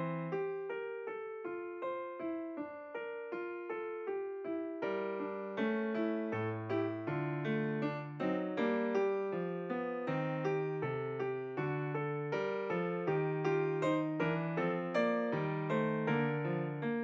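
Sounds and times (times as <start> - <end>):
piano melody with bass notes: 0.0 - 17.0.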